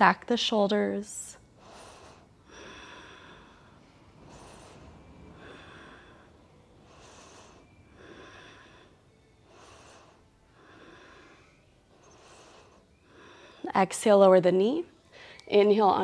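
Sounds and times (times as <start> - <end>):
woman breathing slowly: 1.3 - 13.8, 15.0 - 15.5.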